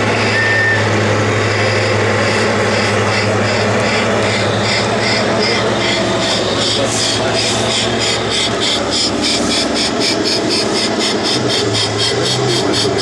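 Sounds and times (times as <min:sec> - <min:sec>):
toy tank engine running: 0:00.0 - 0:13.0.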